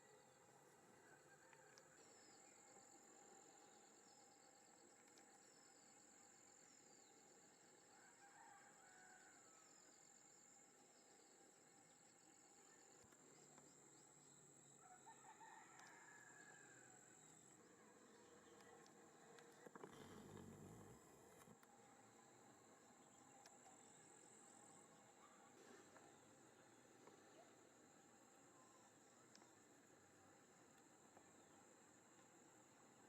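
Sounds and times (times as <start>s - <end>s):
crickets droning: 0.0s - 33.0s.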